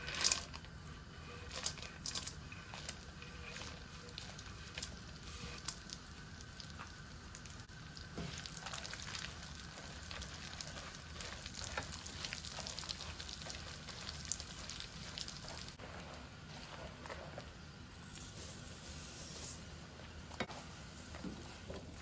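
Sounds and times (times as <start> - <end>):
nuts sizzling in hot fat: 0.0 - 19.8.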